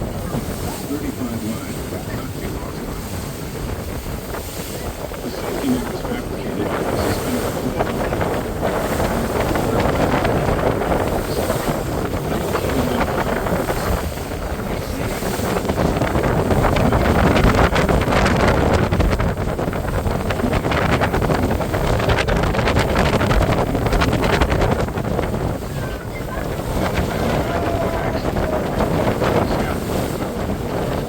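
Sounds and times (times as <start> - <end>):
water and boat noise: 0.0 - 31.0
wind buffeting microphone: 0.0 - 31.0.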